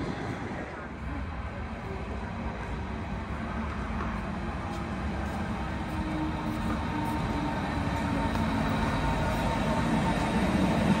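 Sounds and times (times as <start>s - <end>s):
electric train arriving: 0.0s - 11.0s.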